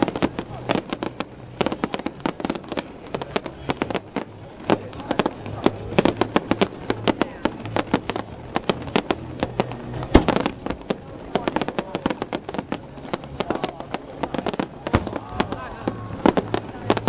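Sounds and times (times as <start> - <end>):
fireworks bursting and crackling: 0.0 - 17.0
music playing: 0.0 - 17.0.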